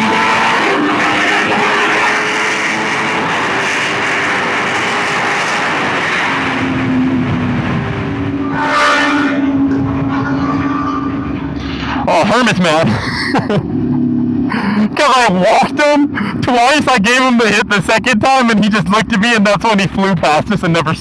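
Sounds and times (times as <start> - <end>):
motorcycle engine cruising: 0.0 - 17.6.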